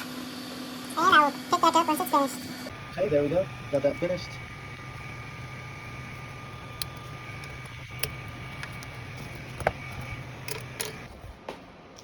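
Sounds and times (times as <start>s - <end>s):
machine hum with faint whine: 0.0s - 12.0s.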